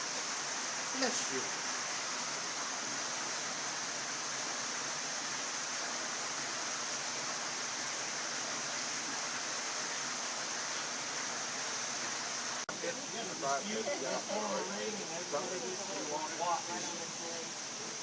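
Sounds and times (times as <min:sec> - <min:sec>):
running water hiss: 0:00.0 - 0:18.0.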